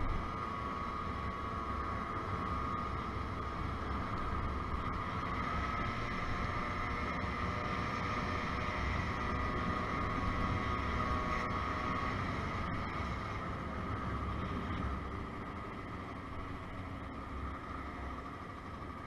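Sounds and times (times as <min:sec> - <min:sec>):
scooter engine high drone: 0:00.0 - 0:19.0
wind and road noise: 0:00.0 - 0:19.0.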